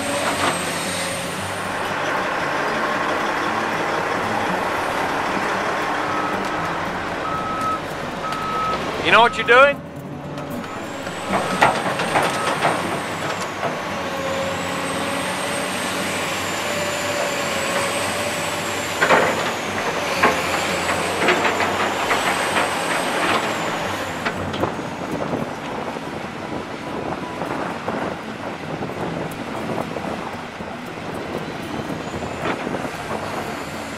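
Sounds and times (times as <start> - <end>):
excavator diesel engine whining: 0.0 - 33.9.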